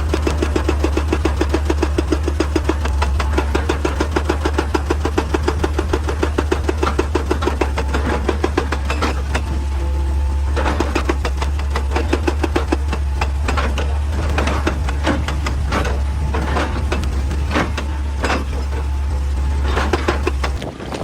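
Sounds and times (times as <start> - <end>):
knocks and clatters of hard material: 0.0 - 9.7, 10.4 - 21.0
excavator diesel engine droning: 0.0 - 21.0.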